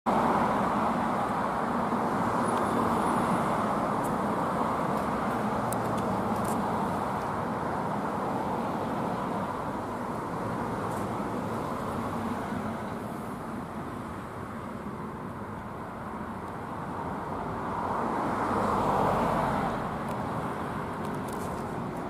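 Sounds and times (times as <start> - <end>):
road traffic: 0.1 - 22.0.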